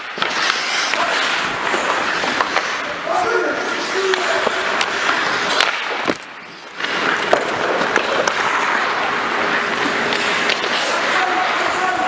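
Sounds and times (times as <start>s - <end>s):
hockey sticks and puck clacking: 0.0s - 12.0s
skates scraping on ice: 0.0s - 12.0s.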